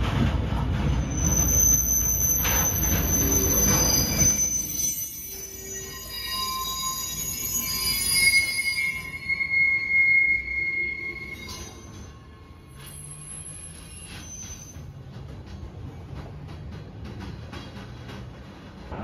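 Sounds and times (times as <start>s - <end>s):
train rumbling past: 0.0s - 19.0s
train wheel squeal: 0.0s - 19.0s.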